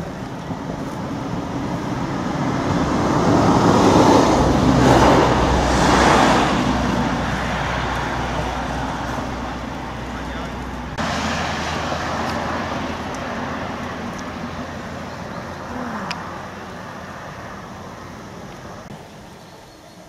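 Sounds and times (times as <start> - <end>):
vehicle passing: 0.0 - 19.4.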